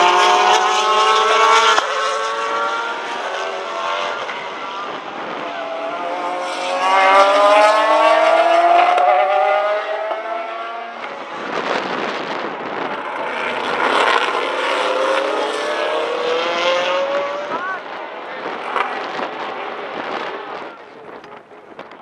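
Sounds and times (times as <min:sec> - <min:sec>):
racing car engines accelerating: 0:00.0 - 0:21.6.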